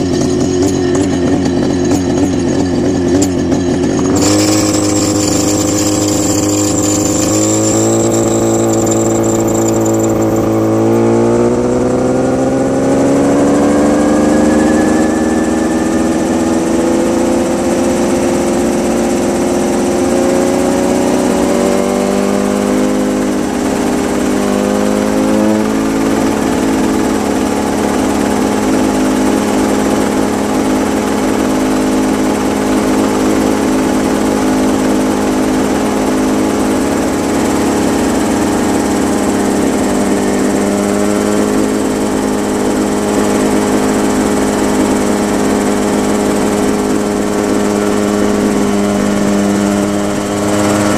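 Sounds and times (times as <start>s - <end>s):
helicopter engine running: 0.0s - 50.9s.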